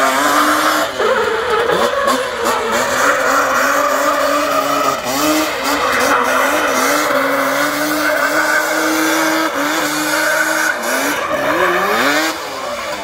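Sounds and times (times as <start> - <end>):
quad bike engine revving: 0.0 - 13.0
tyres skidding on asphalt: 0.0 - 13.0.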